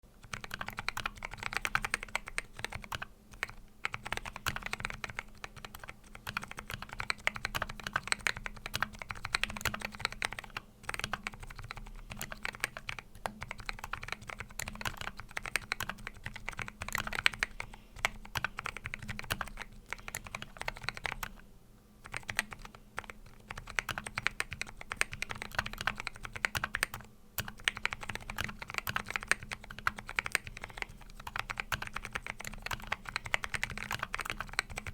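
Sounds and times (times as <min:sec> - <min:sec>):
mechanical keyboard typing: 0:00.2 - 0:21.4, 0:22.0 - 0:34.9.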